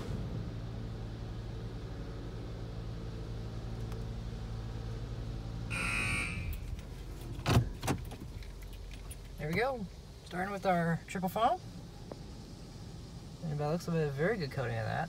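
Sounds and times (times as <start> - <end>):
car engine idling: 0.0 - 15.0
car wash machinery hum: 0.0 - 15.0.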